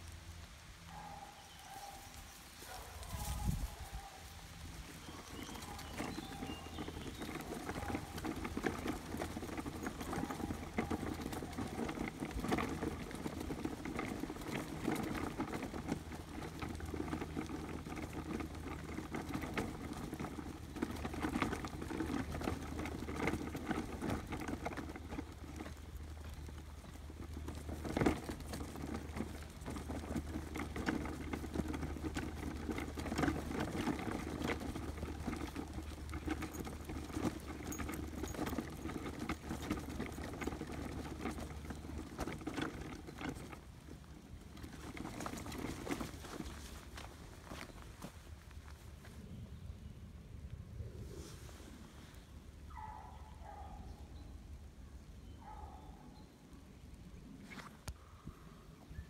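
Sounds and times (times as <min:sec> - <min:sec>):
dogs' paws pattering: 0:00.0 - 0:49.3, 0:52.7 - 0:54.1
footsteps on dirt path: 0:00.9 - 0:49.6.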